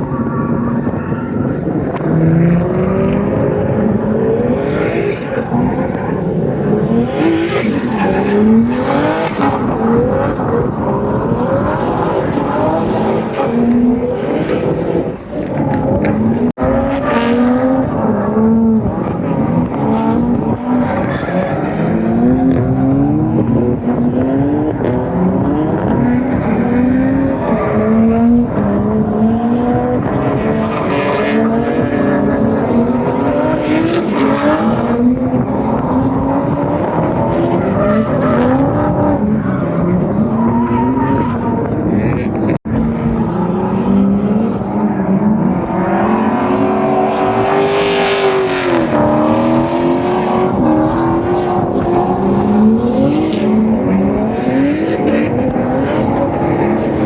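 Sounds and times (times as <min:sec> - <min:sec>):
car engine revving hard: 0:01.4 - 0:57.0.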